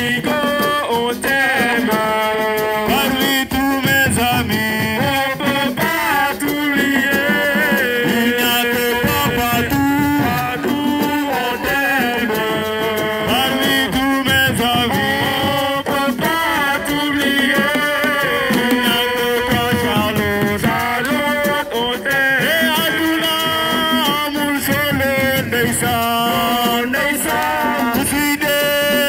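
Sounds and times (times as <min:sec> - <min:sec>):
hand drum percussion: 0:00.0 - 0:29.0
person singing: 0:00.0 - 0:29.0.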